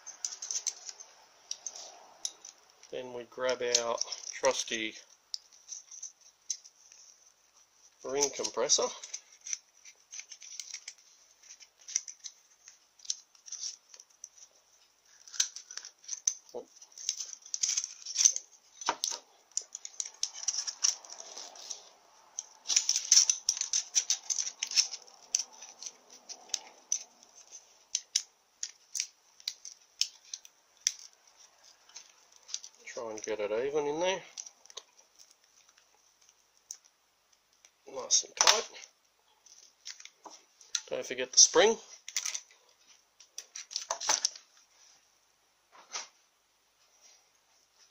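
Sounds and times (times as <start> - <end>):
handling noises: 0.0 - 45.0.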